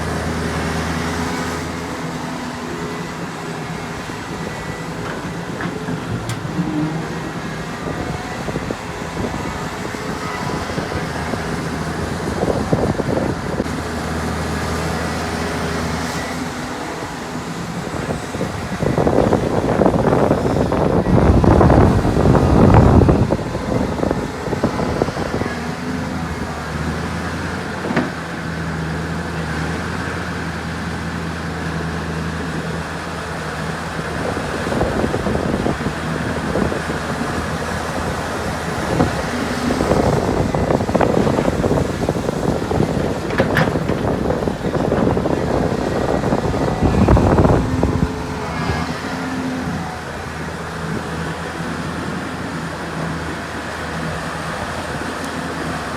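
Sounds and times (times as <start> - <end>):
heavy machinery engine drone: 0.0 - 55.9.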